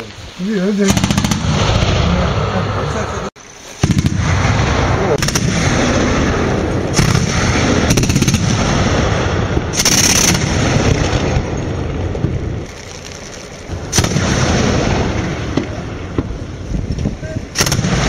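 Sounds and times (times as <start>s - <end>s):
anti-aircraft cannon automatic fire: 0.8s - 2.8s, 3.8s - 16.3s, 17.5s - 18.0s.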